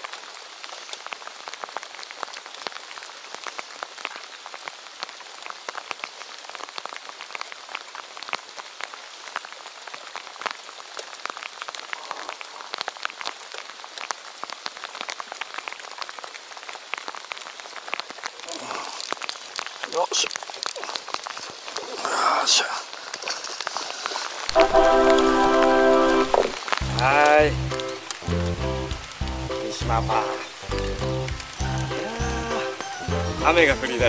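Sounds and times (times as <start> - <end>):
heavy rain on water: 0.0 - 34.0.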